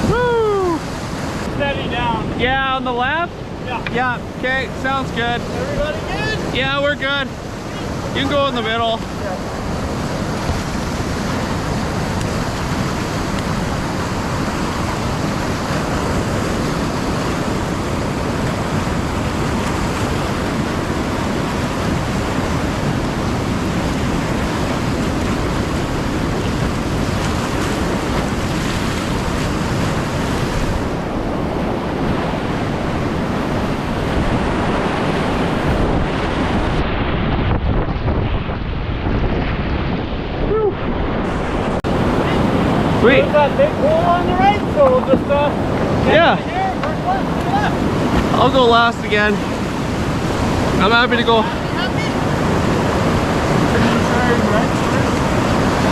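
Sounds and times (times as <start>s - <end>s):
roar of river rapids: 0.0s - 55.9s
wind buffeting microphone: 0.0s - 55.9s.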